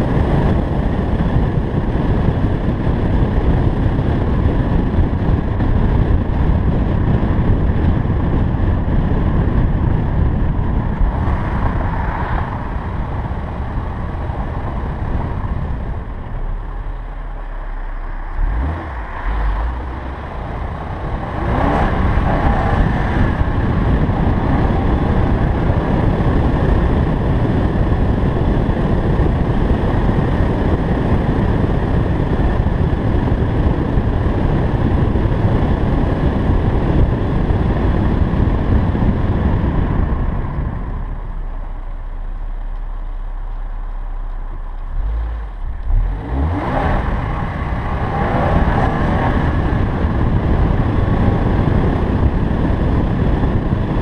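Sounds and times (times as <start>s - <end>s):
car engine: 0.0s - 54.0s
road noise: 0.0s - 54.0s
wind noise: 0.0s - 54.0s.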